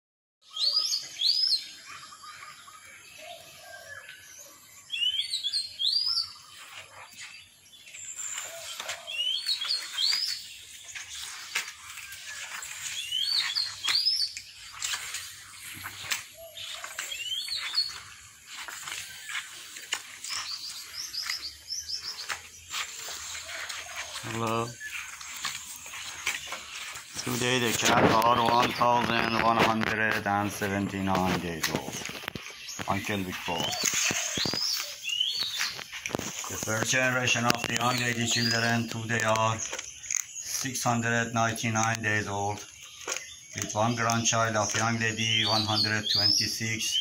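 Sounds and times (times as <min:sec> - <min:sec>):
bird chirps: 0:00.4 - 0:47.0.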